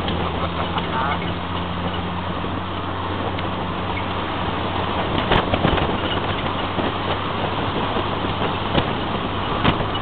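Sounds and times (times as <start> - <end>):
low engine hum: 0.0 - 10.0
road and wind noise: 0.0 - 10.0.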